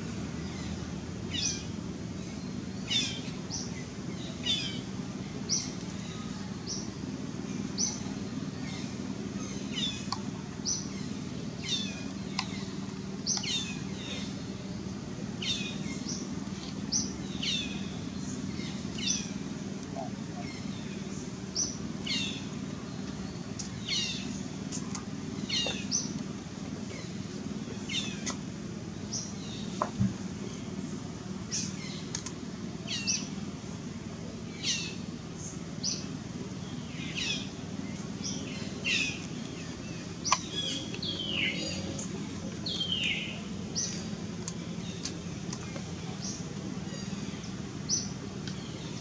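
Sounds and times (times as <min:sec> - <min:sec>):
steady low drone: 0:00.0 - 0:49.0.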